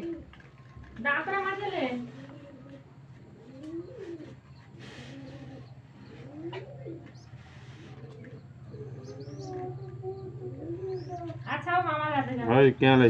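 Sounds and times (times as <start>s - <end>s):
pigeons cooing: 0.0s - 13.0s
steady low hum: 0.0s - 13.0s.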